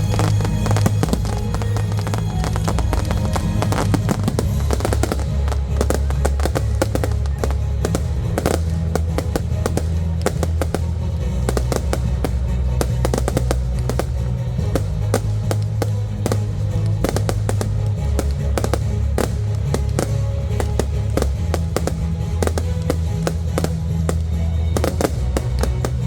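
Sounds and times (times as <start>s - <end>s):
fireworks bangs and crackles: 0.0s - 26.0s
music with deep bass notes: 0.0s - 26.0s.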